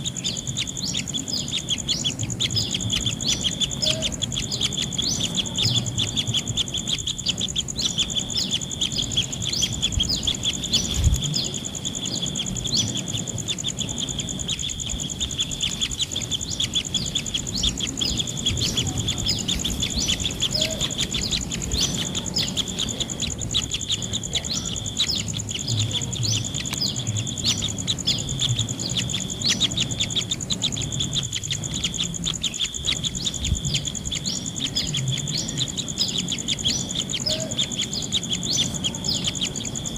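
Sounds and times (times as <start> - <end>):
birds chirping: 0.0 - 39.9
high-pitched insect drone: 0.0 - 39.9.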